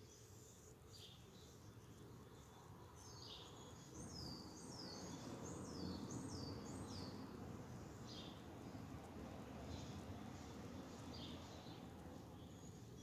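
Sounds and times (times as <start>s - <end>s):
bird chirping: 0.0s - 8.9s, 9.6s - 13.0s
faint low wind: 0.7s - 13.0s.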